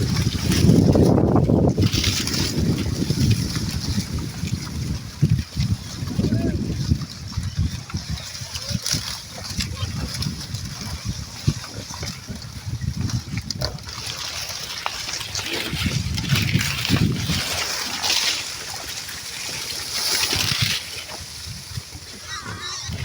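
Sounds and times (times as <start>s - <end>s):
animals splashing in water: 0.0s - 23.0s.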